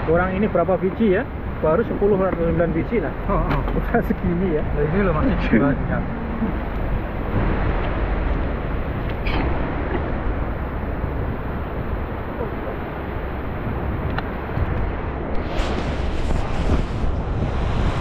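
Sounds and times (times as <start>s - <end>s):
wind buffeting microphone: 0.0s - 18.0s
river water rushing: 3.1s - 18.0s.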